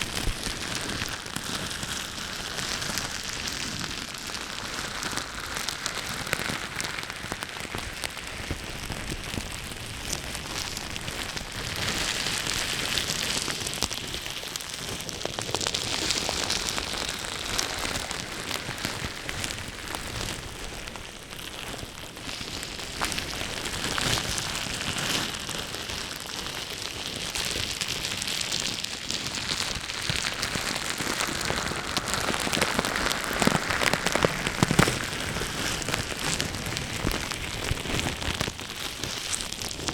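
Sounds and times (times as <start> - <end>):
crackly scratching clicks: 0.0 - 39.9.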